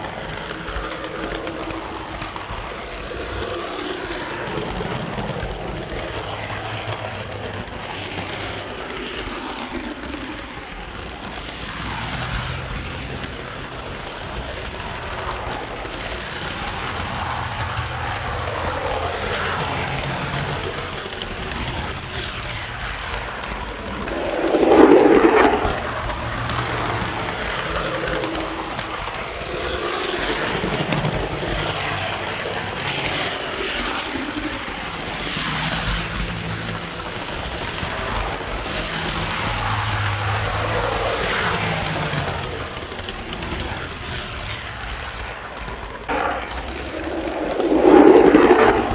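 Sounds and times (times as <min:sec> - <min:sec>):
locomotive motor: 0:00.0 - 0:48.9
model train wheels on rails: 0:00.0 - 0:48.9.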